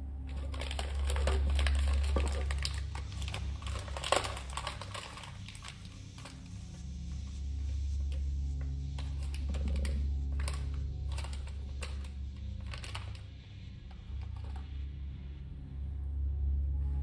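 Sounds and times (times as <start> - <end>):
steady low hum: 0.0 - 17.0
crackles and clicks of plastic: 0.2 - 14.9.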